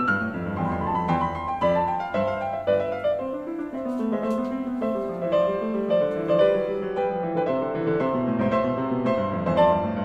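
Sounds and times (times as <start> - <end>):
background piano music: 0.0 - 10.0.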